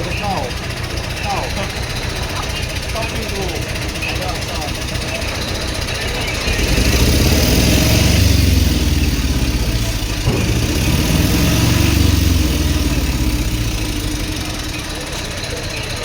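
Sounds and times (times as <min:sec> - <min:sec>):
large vehicle engine rumbling: 0:00.0 - 0:16.0.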